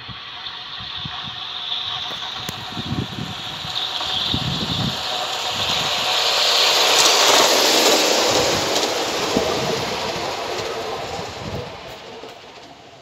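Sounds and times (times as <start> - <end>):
model train wheels hissing on rails: 0.0 - 13.0.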